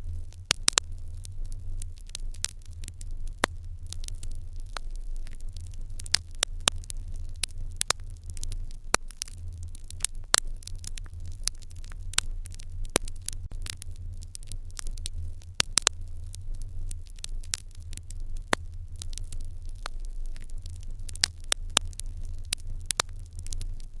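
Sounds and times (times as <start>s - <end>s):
low steady rumble: 0.0s - 24.0s
wood fire crackling and popping: 0.0s - 24.0s.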